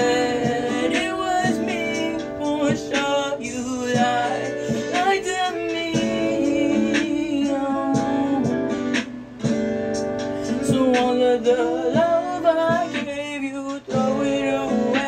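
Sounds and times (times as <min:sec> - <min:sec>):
instrumental backing music: 0:00.0 - 0:15.0.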